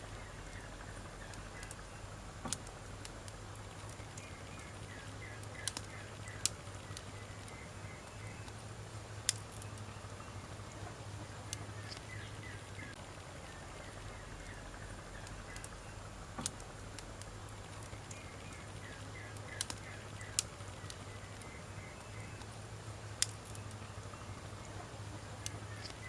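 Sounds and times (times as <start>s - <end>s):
faint chirping: 0.0s - 2.2s, 3.5s - 26.0s
campfire hissing: 0.0s - 26.0s
fire crackles and pops: 0.0s - 26.0s.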